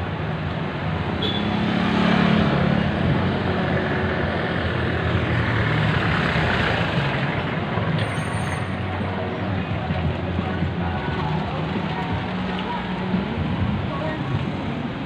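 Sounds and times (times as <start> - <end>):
steady traffic hum: 0.0 - 15.0.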